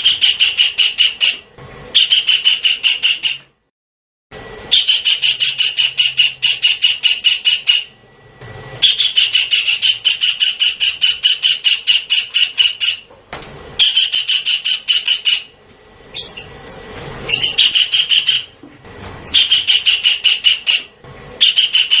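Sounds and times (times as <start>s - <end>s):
kingfisher calling: 0.0s - 1.4s, 2.0s - 3.5s, 4.7s - 8.0s, 8.8s - 13.1s, 13.8s - 18.6s, 19.2s - 22.0s.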